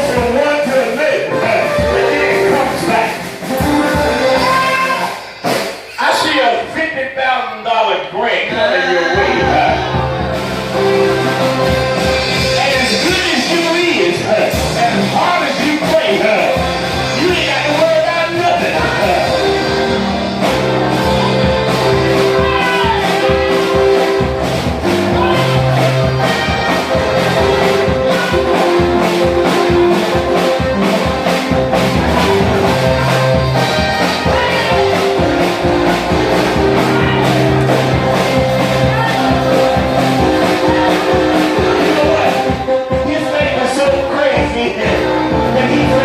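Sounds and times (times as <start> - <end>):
held keyboard chords: 0.0 - 5.6, 8.5 - 46.0
steady drum beat: 0.0 - 6.8, 8.5 - 46.0.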